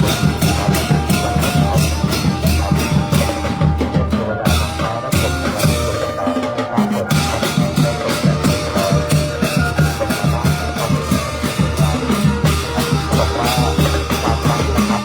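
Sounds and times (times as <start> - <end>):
bass drum beat: 0.0 - 15.0
brass band horns: 0.0 - 15.0
cymbals: 0.0 - 15.0.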